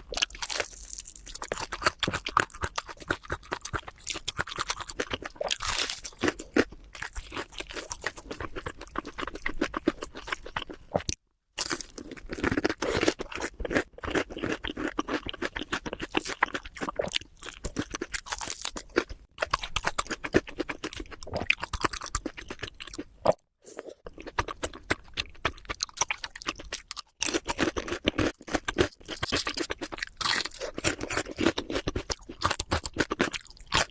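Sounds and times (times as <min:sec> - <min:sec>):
chewing and crunching food: 0:00.0 - 0:33.9.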